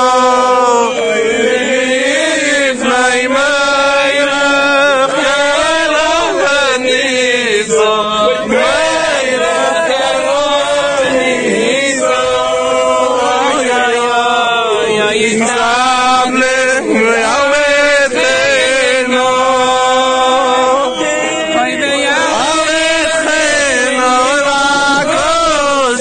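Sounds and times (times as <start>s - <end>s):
men chanting together: 0.0s - 26.0s.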